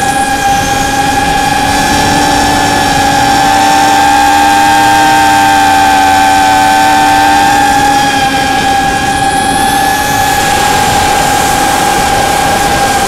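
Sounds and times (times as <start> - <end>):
electric motors and propellers whining: 0.0 - 13.0
rushing air noise: 0.0 - 13.0.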